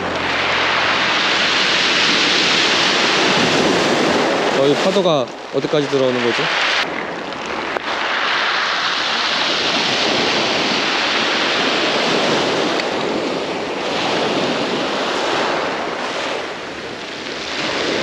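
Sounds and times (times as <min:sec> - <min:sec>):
waves breaking on pebble beach: 0:00.0 - 0:18.0.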